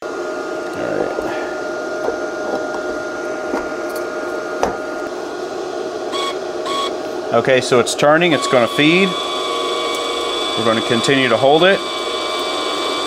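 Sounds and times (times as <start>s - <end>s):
steady whine tones: 0.0s - 13.0s
wire-feed motor whirring hum: 0.0s - 13.0s.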